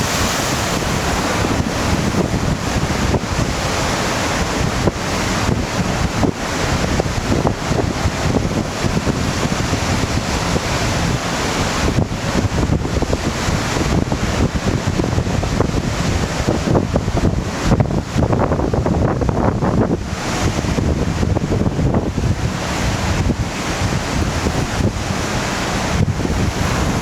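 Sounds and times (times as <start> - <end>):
waves breaking: 0.0 - 18.2, 20.0 - 27.0
gusty wind on microphone: 0.0 - 27.0.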